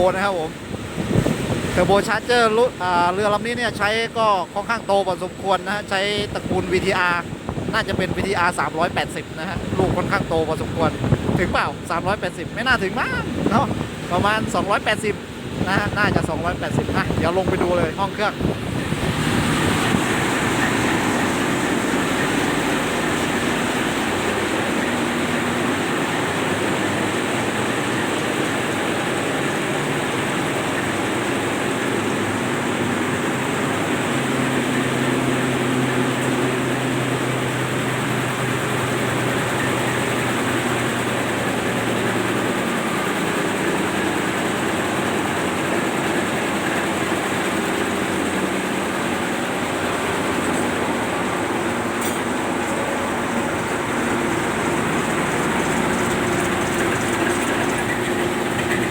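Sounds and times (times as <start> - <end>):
diesel engine room din: 0.0 - 58.9.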